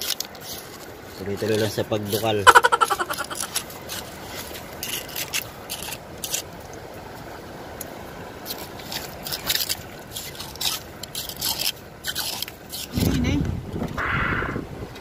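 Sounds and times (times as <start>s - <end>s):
scraping wet sediment: 0.0s - 6.9s, 7.8s - 13.1s.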